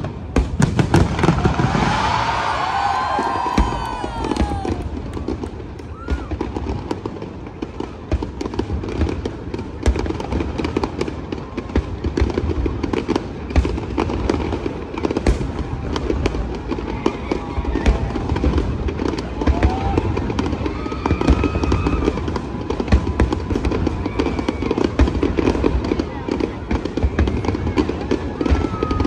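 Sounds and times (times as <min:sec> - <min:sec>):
falling whistling fireworks: 0:00.0 - 0:29.0
fireworks cracks and bangs: 0:00.0 - 0:29.0.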